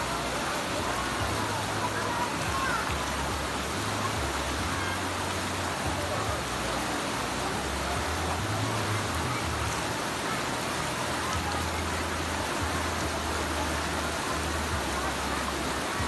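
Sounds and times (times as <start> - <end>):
falling water rushing: 0.0 - 16.0.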